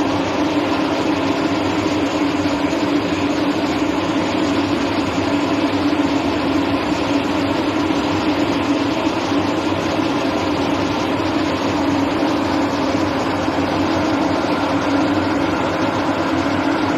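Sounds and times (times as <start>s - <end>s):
fog cannon fan blowing: 0.0s - 16.9s
steady hum: 0.0s - 16.9s.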